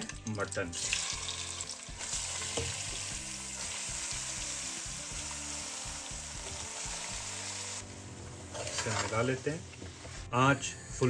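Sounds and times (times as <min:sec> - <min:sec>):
meat and onions sizzling in oil: 0:00.7 - 0:10.3.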